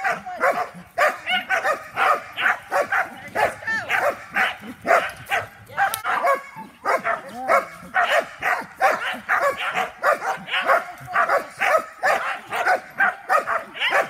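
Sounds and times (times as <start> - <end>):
dog barking excitedly: 0.0 - 14.0
dog yipping: 0.1 - 14.0.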